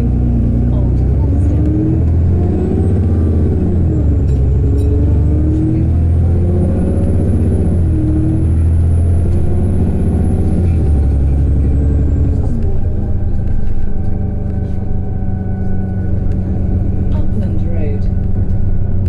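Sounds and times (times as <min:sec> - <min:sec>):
bus diesel engine pulling hard: 0:00.0 - 0:19.0.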